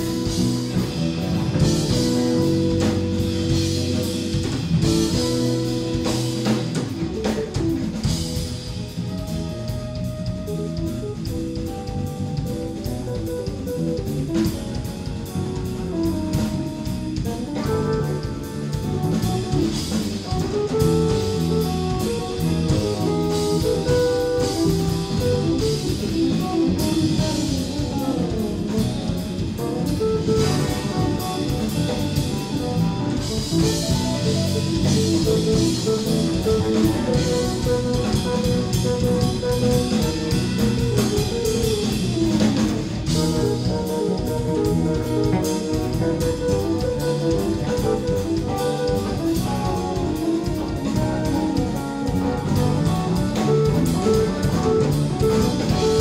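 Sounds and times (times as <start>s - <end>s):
drum kit: 0.0s - 56.0s
electric bass: 0.0s - 56.0s
electric guitar: 0.0s - 56.0s.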